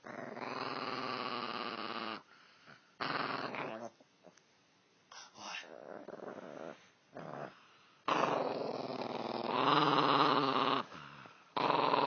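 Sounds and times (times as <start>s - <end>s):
dog growling: 0.0s - 2.3s, 3.0s - 4.0s, 5.6s - 12.0s.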